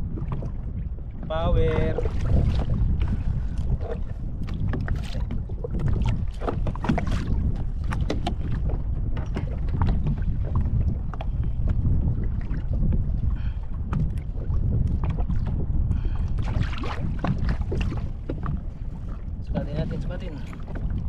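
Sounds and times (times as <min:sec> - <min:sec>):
water lapping against hull: 0:00.0 - 0:21.0
wind buffeting microphone: 0:00.0 - 0:21.0.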